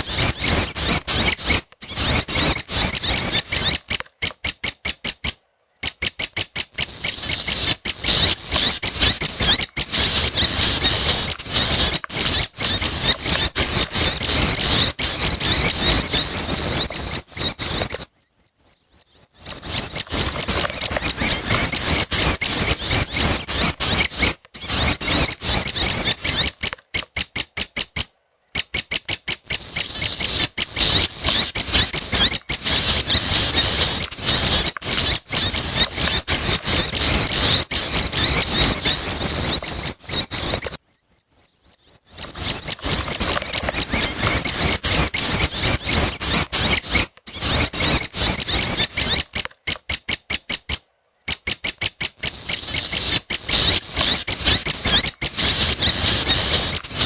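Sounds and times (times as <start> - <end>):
young birds chattering: 0.0 - 27.8, 28.6 - 50.5, 51.3 - 57.0.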